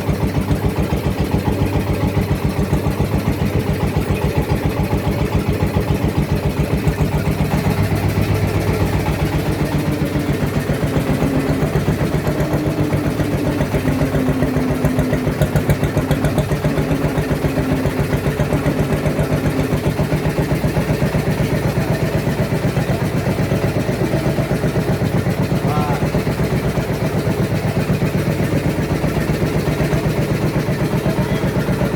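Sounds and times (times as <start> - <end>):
small boat engine chugging: 0.0 - 31.9.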